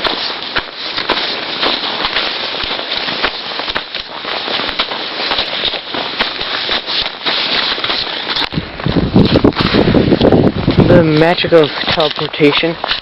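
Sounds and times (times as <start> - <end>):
boots crunching through snow: 0.0 - 13.0.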